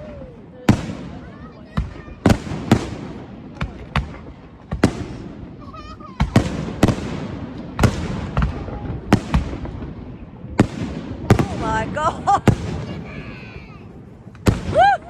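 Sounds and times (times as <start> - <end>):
fireworks bursting with echo: 0.0 - 15.0.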